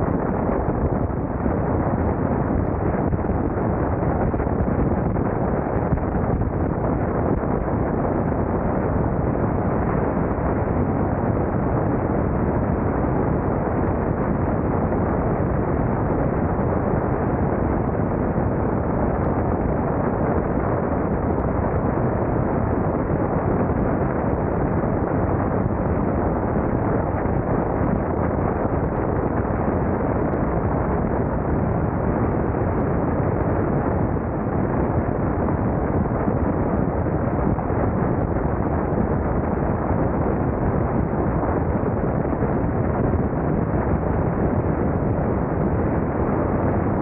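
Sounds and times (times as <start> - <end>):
wind on microphone: 0.0 - 47.0.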